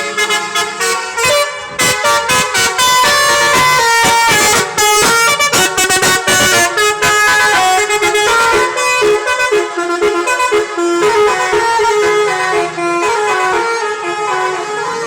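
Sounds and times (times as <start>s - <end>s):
multi-tone bus horn tune: 0.0s - 15.0s.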